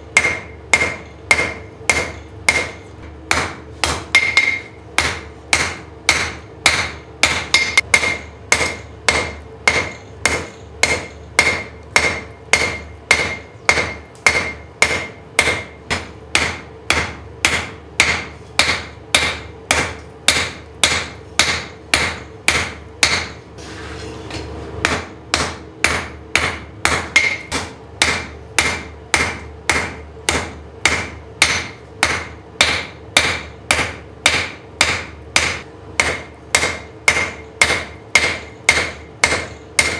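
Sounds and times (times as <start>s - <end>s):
hammer ringing on anvil: 0.1s - 23.4s, 24.8s - 39.9s.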